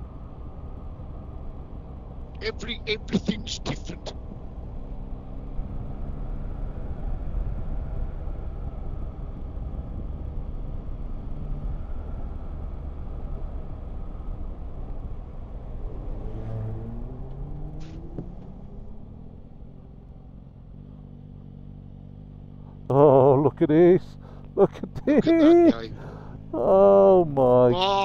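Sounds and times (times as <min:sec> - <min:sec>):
motorcycle engine rumble: 0:00.0 - 0:28.0.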